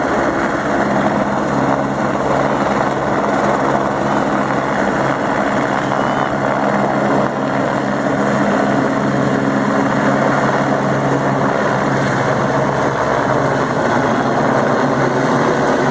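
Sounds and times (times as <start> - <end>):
helicopter hovering: 0.0 - 15.9.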